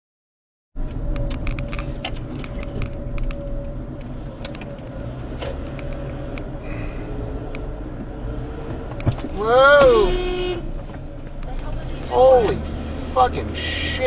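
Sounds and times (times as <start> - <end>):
car engine and road noise: 0.8 - 14.0.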